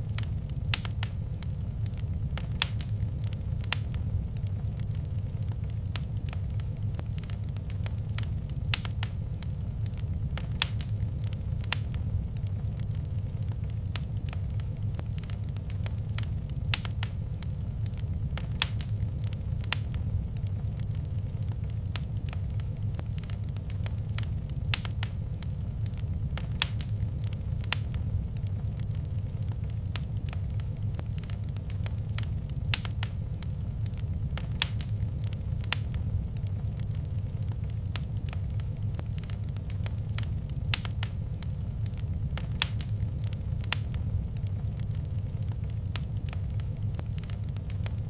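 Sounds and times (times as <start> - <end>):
low rumble: 0.0 - 47.7
wood fire crackling: 0.0 - 48.0.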